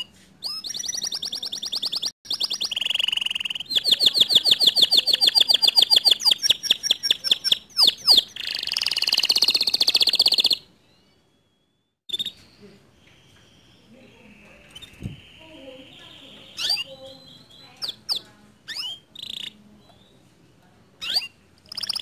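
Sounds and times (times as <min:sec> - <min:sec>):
canary singing: 0:00.0 - 0:22.0.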